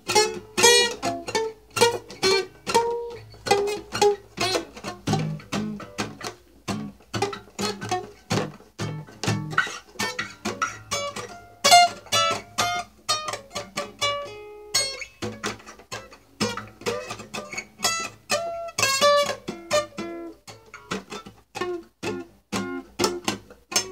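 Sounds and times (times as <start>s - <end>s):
fingerpicked acoustic guitar: 0.0s - 23.9s.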